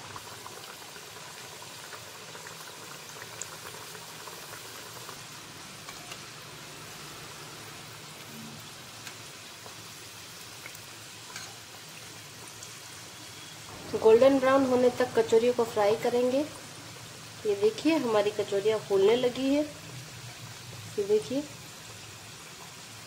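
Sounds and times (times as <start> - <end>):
food deep-frying in oil: 0.0 - 23.0.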